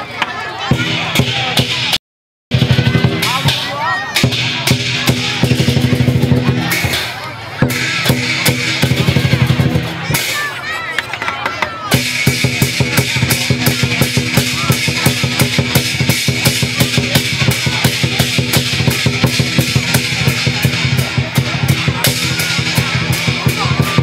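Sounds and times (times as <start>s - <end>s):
big drum beating fast: 0.7s - 24.0s
clashing cymbals: 0.8s - 10.6s, 11.9s - 24.0s.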